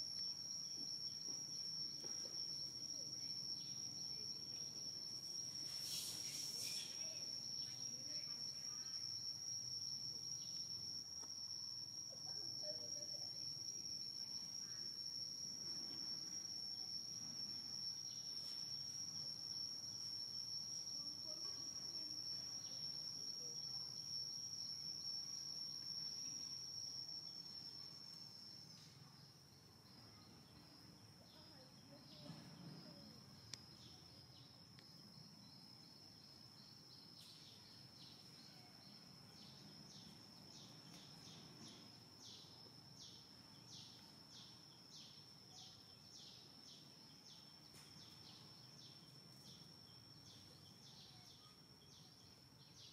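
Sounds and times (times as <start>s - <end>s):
high-pitched insect trill: 0.0s - 52.9s.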